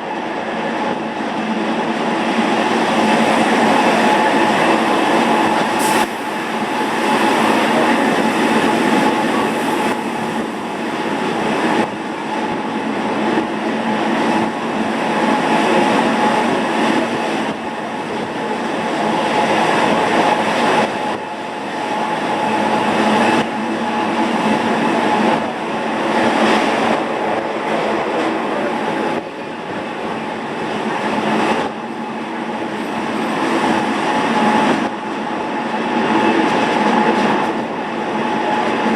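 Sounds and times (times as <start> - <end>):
electric train whine: 0.0 - 38.9
train rolling noise: 0.0 - 38.9.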